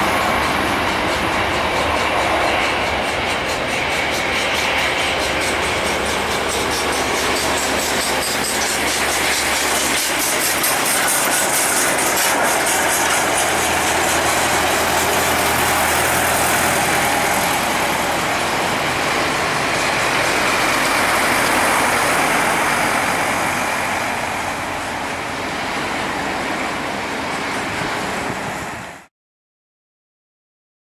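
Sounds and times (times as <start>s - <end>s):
jet engines roaring: 0.0s - 28.8s.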